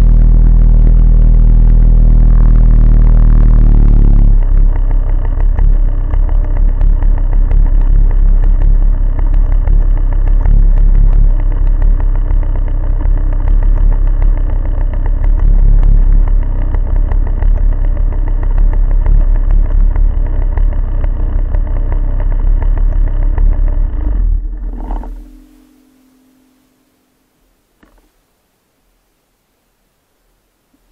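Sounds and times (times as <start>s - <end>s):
snowmobile engine running: 0.0s - 26.7s.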